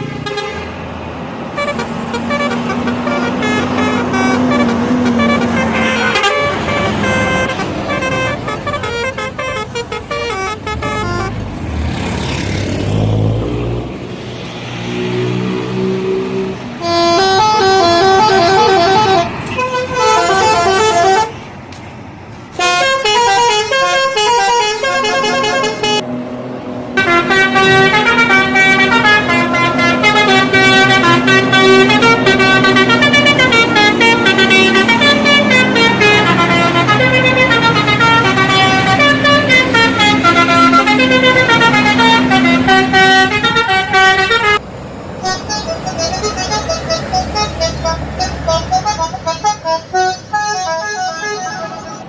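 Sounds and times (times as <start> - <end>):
air horns playing melody: 0.0 - 0.7, 1.6 - 11.4, 16.8 - 21.4, 22.6 - 26.0, 27.0 - 44.6, 45.2 - 52.0.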